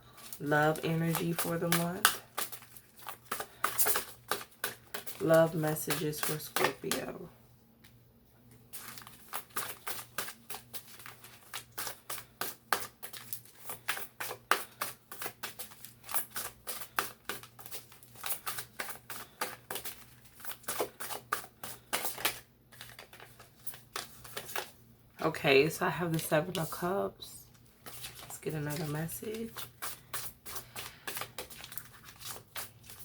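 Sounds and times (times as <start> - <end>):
cards being shuffled by hand: 0.0 - 7.2, 8.7 - 24.8, 26.0 - 33.0.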